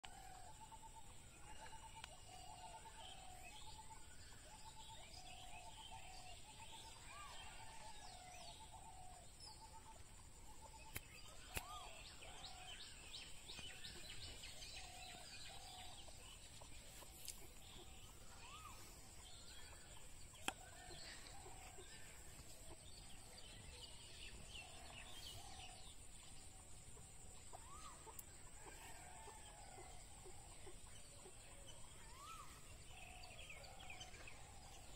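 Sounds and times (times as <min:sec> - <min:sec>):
birds calling: 0:00.0 - 0:34.9.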